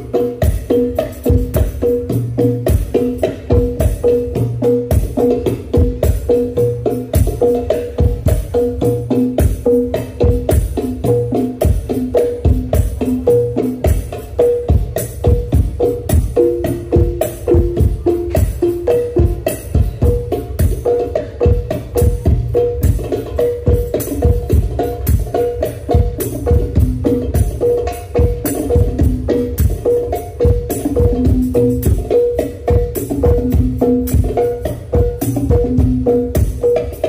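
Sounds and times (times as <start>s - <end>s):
percussion ensemble playing: 0.0s - 37.0s
ringing drum notes: 0.0s - 37.0s.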